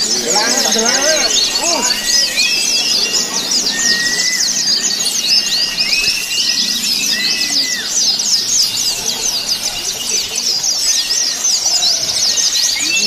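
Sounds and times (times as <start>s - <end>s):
bird whistled notes: 0.0s - 13.0s
birds chirping and trilling: 0.0s - 13.0s.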